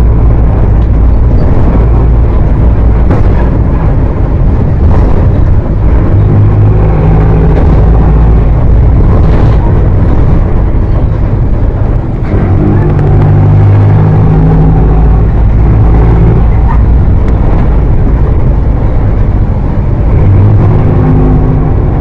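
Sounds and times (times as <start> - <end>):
diesel bus engine rumble: 0.0 - 22.0.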